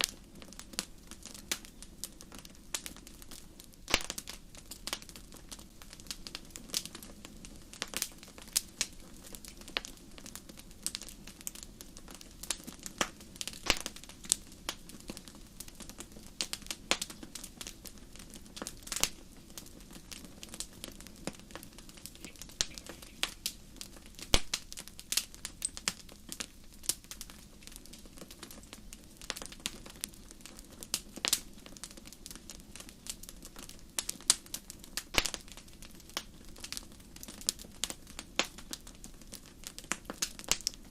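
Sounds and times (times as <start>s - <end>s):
campfire crackling and popping: 0.0s - 40.9s
soft hiss of flames: 0.0s - 40.9s.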